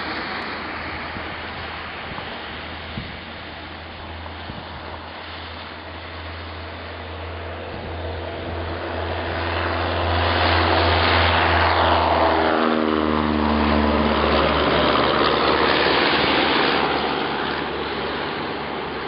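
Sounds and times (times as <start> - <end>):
propeller plane taking off: 0.0 - 19.0.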